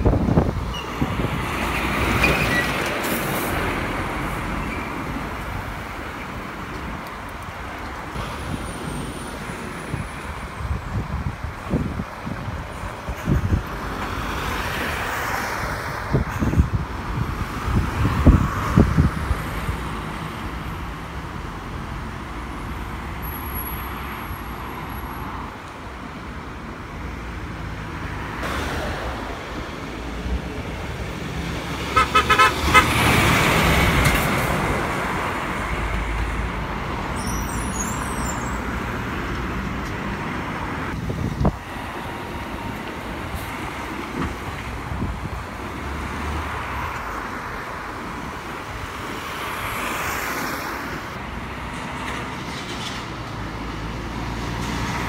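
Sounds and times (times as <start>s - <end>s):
lorries and cars passing: 0.0s - 55.0s.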